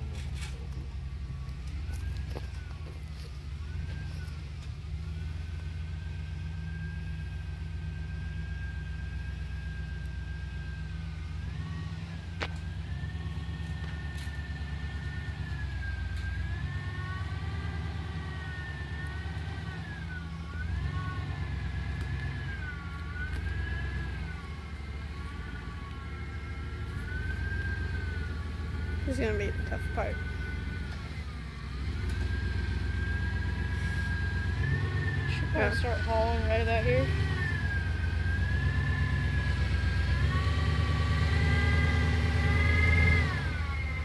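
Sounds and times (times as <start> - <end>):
deep exhaust rumble: 0.0 - 44.0.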